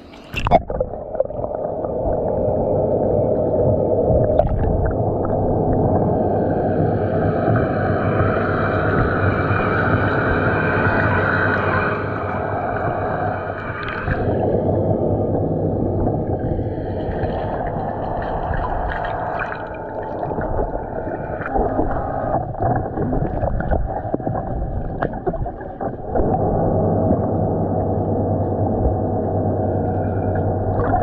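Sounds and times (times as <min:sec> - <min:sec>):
muffled motor hum underwater: 0:00.0 - 0:31.0.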